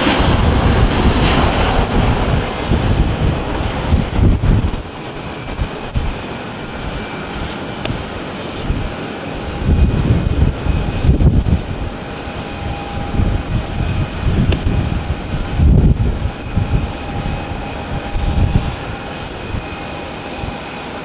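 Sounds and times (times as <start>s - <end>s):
jet engines roaring at takeoff: 0.0s - 21.0s.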